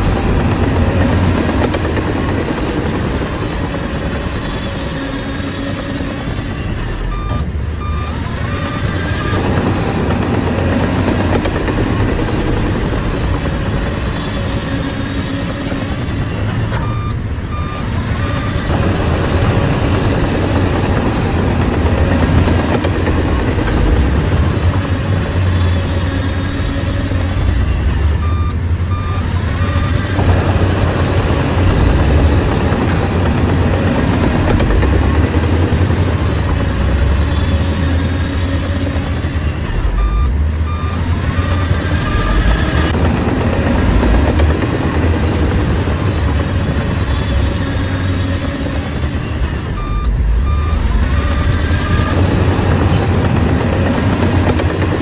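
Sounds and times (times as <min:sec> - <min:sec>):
reversing alarm beeping: 0:00.0 - 0:24.7, 0:25.4 - 0:45.6, 0:46.2 - 0:55.0
bulldozer diesel engine running: 0:00.0 - 0:55.0.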